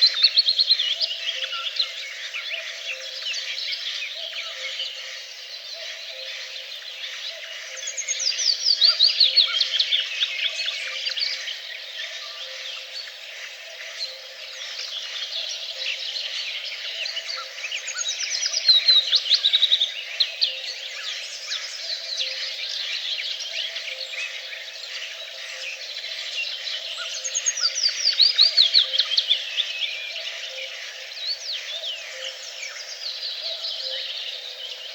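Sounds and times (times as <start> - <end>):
songbird chorus: 0.0 - 34.9.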